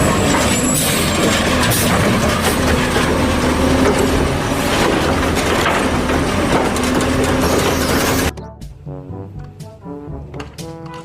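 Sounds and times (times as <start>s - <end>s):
truck engine running: 0.0s - 10.8s.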